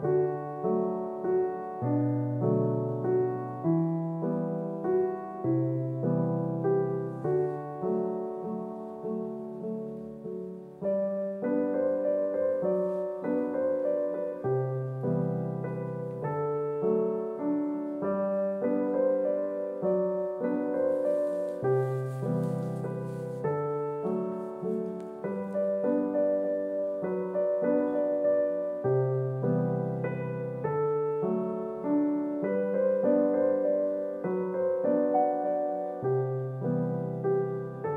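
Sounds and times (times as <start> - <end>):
gentle piano music: 0.0 - 37.9.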